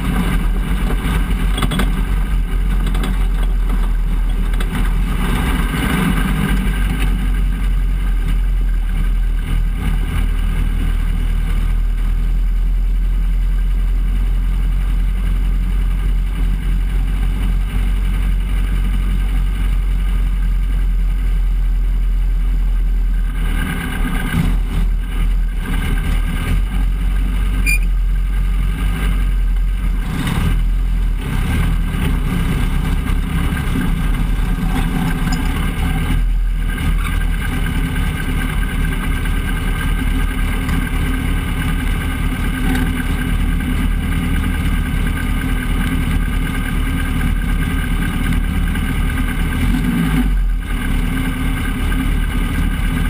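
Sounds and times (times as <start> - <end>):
truck engine at low revs: 0.0 - 53.0.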